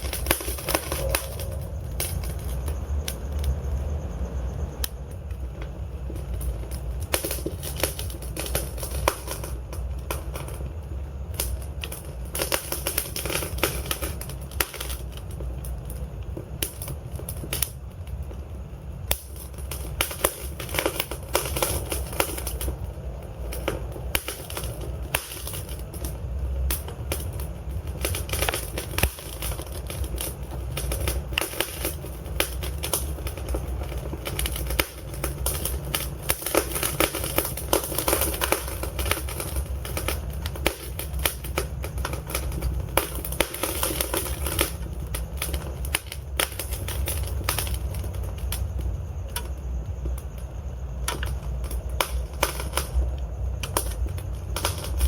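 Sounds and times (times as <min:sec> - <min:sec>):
flames rumbling and hissing: 0:00.0 - 0:55.0
logs crackling and popping: 0:00.0 - 0:55.0.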